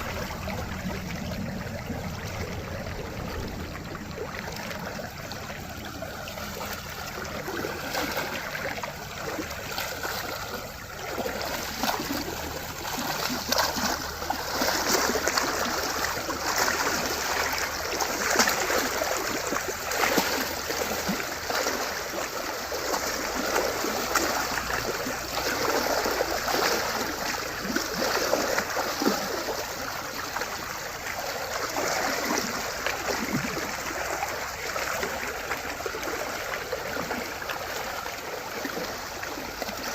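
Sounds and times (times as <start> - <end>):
hooves splashing in water: 0.0 - 39.9
stream rushing: 0.0 - 39.9.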